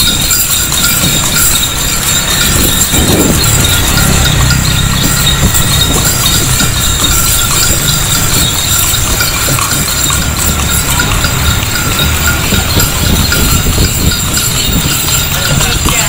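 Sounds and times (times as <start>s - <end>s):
cart wheels rattling on pavement: 0.0s - 16.0s
low rumble: 0.3s - 15.2s.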